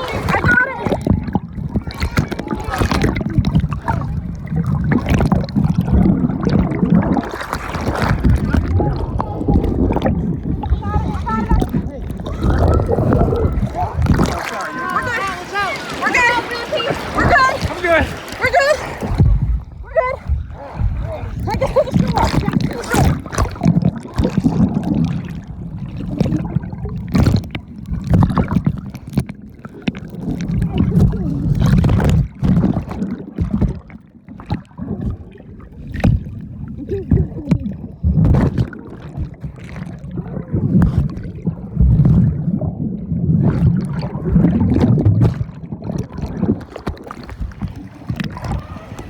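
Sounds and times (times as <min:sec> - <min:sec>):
river water around raft: 0:00.0 - 0:49.0.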